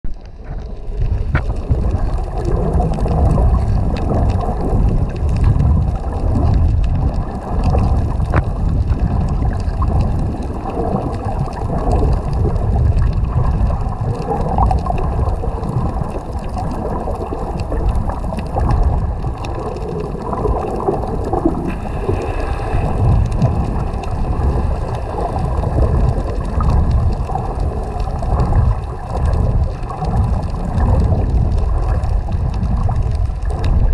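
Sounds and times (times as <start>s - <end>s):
underwater water rumble: 0.0s - 33.9s.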